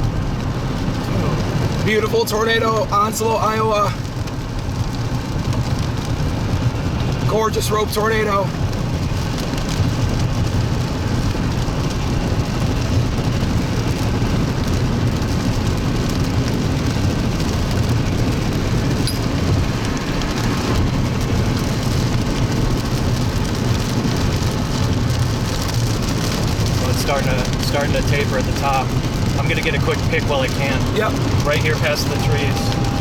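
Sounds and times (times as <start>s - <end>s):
car engine rumbling: 0.0s - 33.0s
steady rain: 0.0s - 33.0s.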